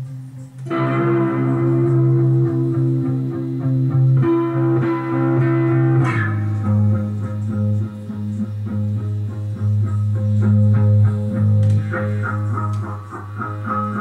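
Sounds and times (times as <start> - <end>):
electric guitar playing: 0.0 - 14.0.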